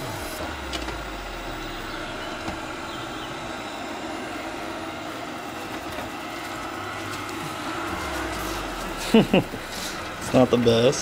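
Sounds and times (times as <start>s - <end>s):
robot vacuum humming: 0.0s - 11.0s.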